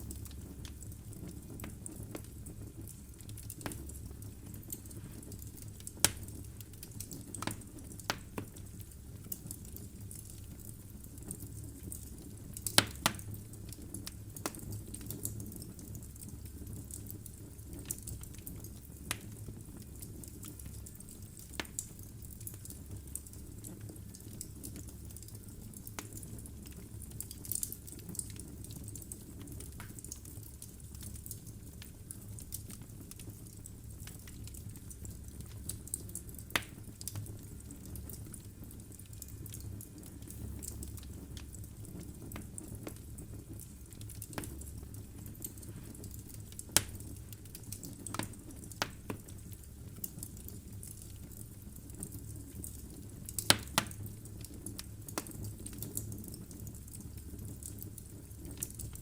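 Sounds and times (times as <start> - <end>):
fire flames rumbling: 0.0 - 59.0
logs crackling and popping: 0.0 - 59.0.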